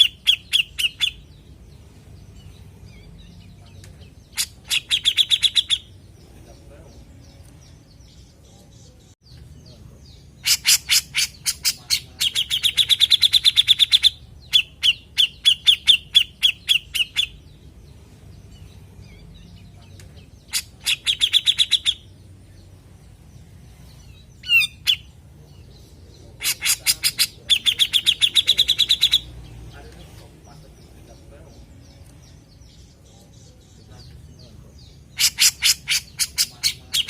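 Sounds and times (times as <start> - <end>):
bulbul chattering calls: 0.0 - 7.4, 9.6 - 37.0.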